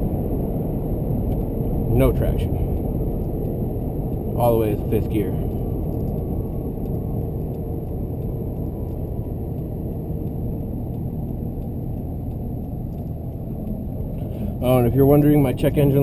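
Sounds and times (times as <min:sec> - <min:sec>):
diesel pickup engine rumble: 0:00.0 - 0:16.0
road noise: 0:00.0 - 0:16.0.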